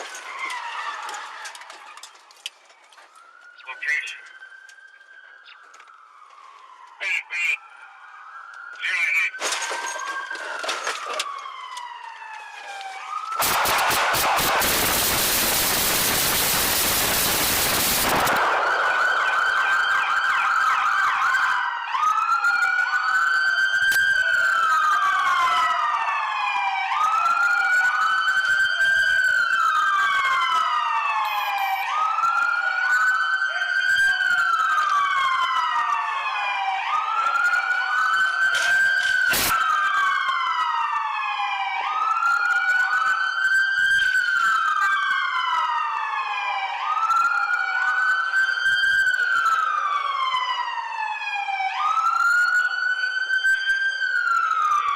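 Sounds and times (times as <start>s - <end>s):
police siren wailing: 0.0s - 54.9s.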